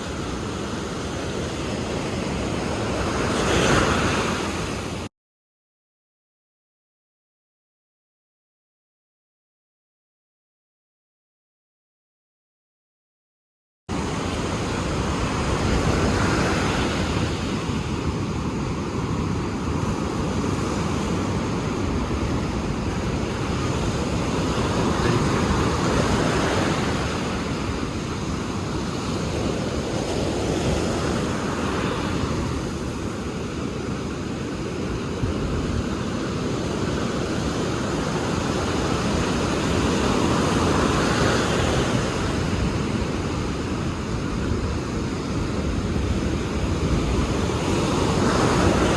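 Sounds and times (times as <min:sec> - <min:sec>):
ocean waves breaking: 0:00.0 - 0:05.1, 0:13.9 - 0:48.9.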